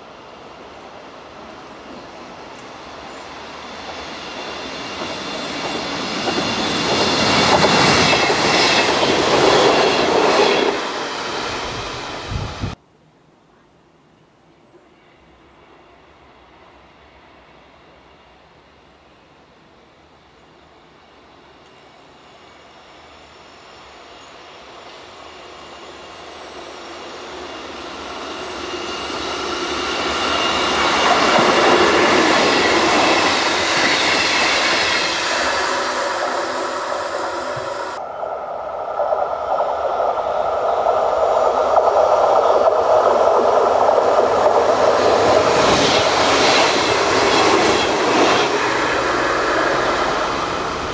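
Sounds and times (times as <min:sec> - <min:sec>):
train wheel and rail noise: 0:00.0 - 0:12.8, 0:14.4 - 0:50.9.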